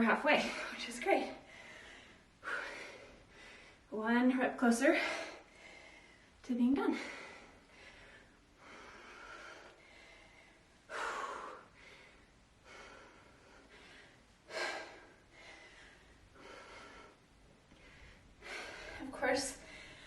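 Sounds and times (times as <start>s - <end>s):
woman breathing hard: 0.4s - 3.9s, 4.9s - 20.0s.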